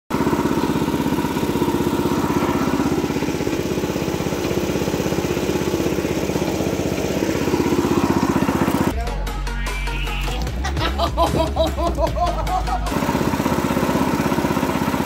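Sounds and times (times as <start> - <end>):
small engine idling: 0.1 - 9.0, 10.6 - 15.0.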